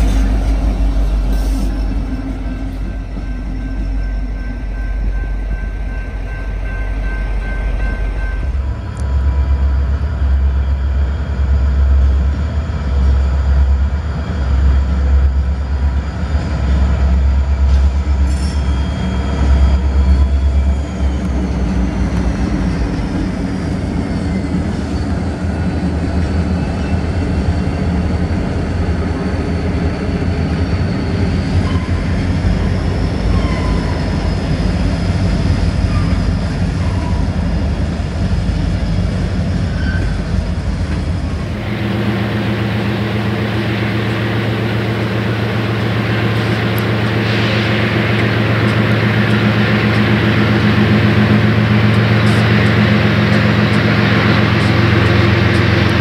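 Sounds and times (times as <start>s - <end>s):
train rumbling past: 0.0s - 56.0s.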